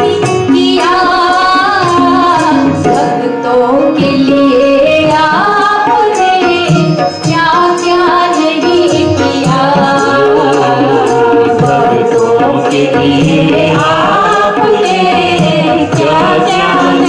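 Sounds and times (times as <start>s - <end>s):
keyboard accompaniment: 0.0s - 17.0s.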